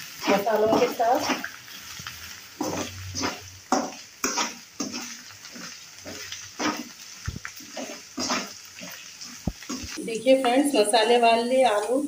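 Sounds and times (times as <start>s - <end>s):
metal spoon scraping pan: 0.0s - 10.0s
light oil sizzle: 0.0s - 12.0s.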